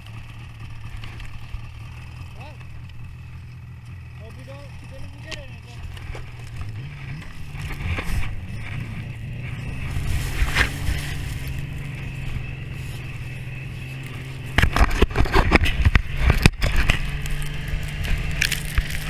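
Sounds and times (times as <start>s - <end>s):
loud rumbling and crackling: 0.0s - 19.0s
vehicle engine humming: 0.0s - 19.0s.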